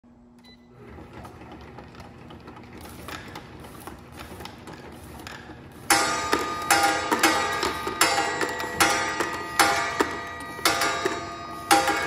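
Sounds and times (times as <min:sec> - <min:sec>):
machine motor hum: 0:00.1 - 0:12.0.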